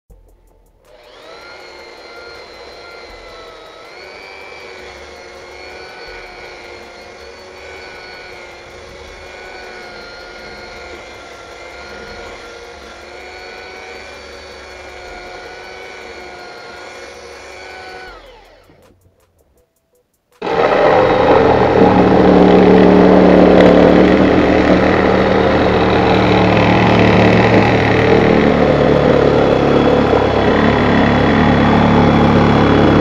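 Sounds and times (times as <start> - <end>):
electric drill sanding wood: 0.9 - 19.0, 20.4 - 33.0.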